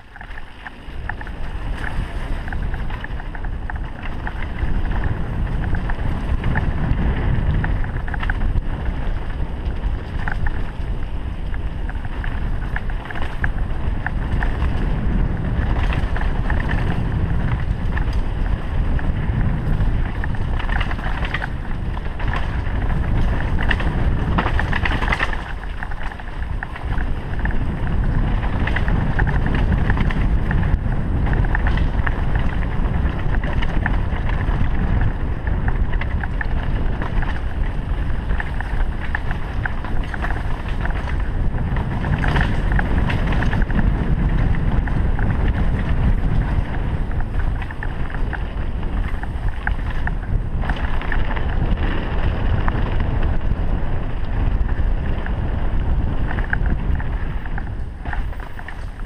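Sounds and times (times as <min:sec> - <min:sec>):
bike rattling over bumps: 0:00.0 - 0:59.0
tyres rumbling on dirt: 0:00.0 - 0:59.0
wind rushing over microphone: 0:00.0 - 0:59.0.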